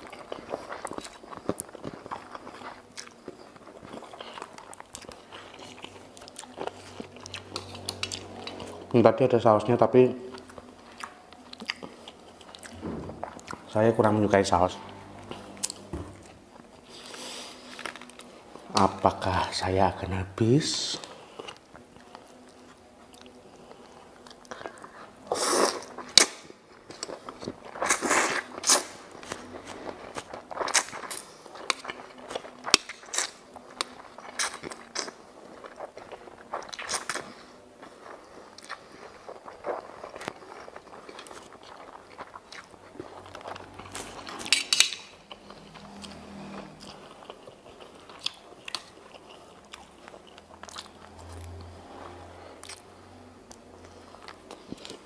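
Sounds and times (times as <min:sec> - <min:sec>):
close-up chewing: 0:00.0 - 0:09.0, 0:09.8 - 0:19.7, 0:20.9 - 0:55.0.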